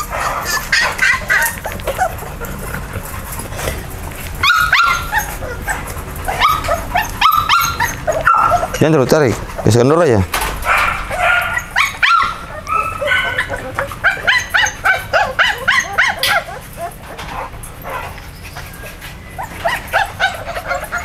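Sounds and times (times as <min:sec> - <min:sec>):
dogs yipping and whimpering: 0:00.0 - 0:09.8, 0:10.6 - 0:21.0.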